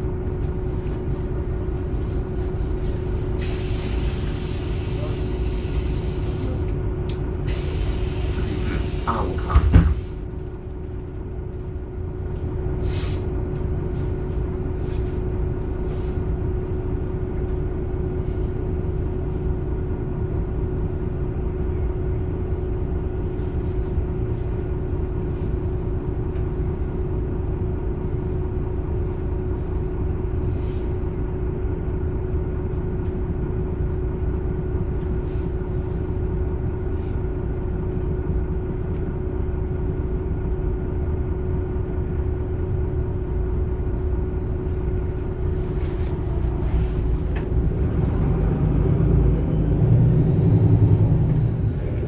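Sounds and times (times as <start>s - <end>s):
bus engine rumble with whine: 0.0s - 52.0s.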